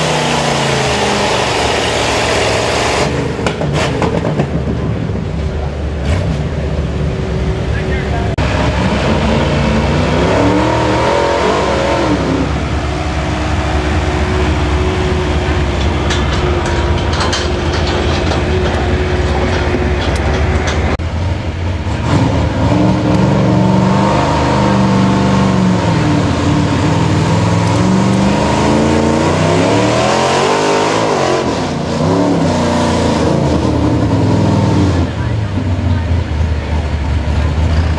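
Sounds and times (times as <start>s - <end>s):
truck engine revving under load: 0.0s - 37.9s.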